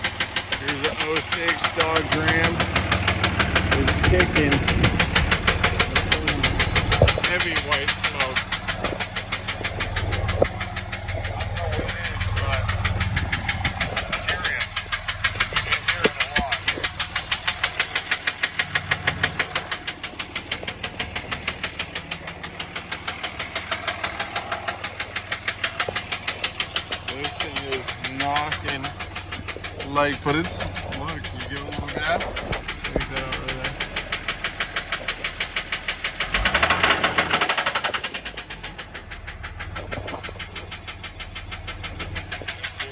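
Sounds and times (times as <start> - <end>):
engine idling: 0.0 - 42.9
sharp engine knock: 0.0 - 42.9.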